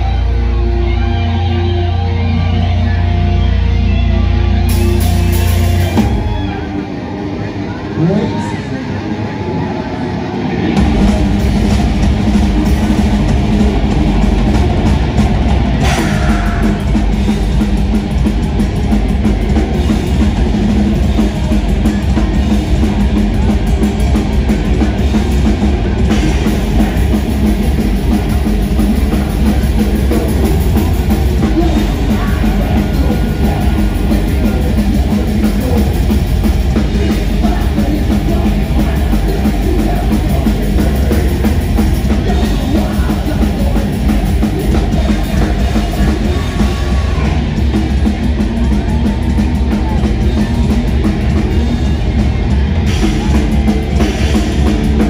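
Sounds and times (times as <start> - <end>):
distorted electric guitars: 0.0 - 55.0
drum kit beat: 4.6 - 6.6, 10.8 - 55.0.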